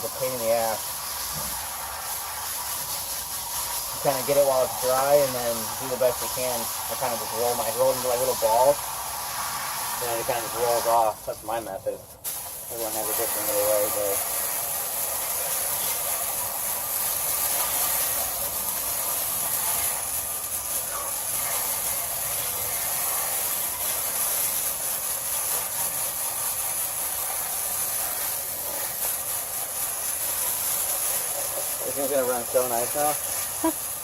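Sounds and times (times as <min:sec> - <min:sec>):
garden hose spraying water: 0:00.0 - 0:34.0.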